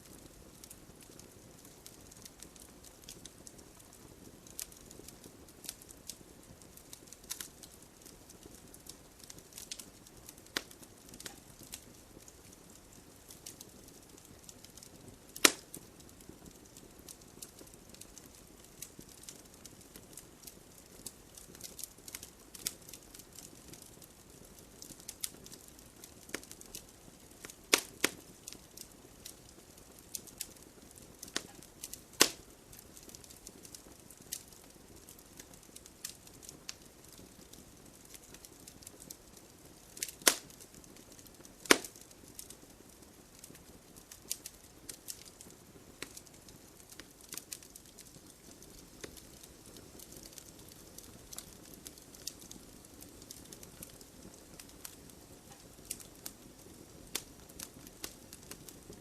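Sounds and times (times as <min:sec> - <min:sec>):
burning logs crackling: 0:00.0 - 0:59.0
sharp pops from fire: 0:00.0 - 0:59.0.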